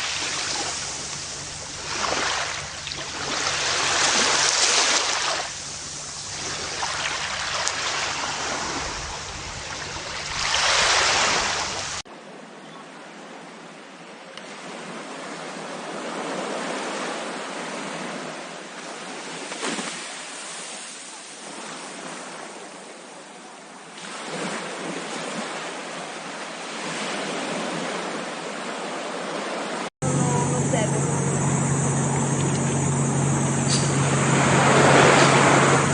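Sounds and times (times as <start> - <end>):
ocean surf on shore: 0.0 - 35.9.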